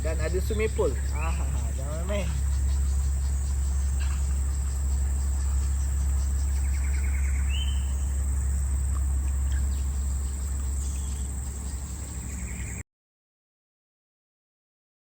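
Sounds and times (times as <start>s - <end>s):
bird chirps and trill: 0.0s - 12.8s
insects droning: 0.0s - 12.8s
low rumble: 0.0s - 12.8s.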